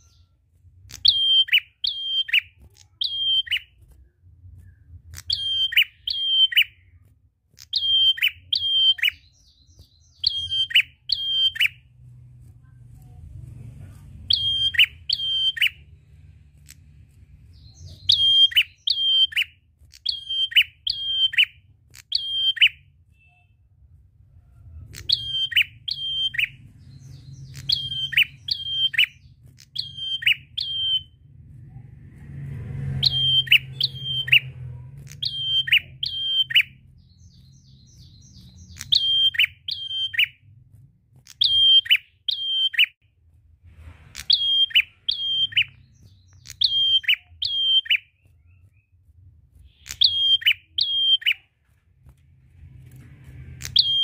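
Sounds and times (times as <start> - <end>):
caged bird chirping: 0.0 - 54.0.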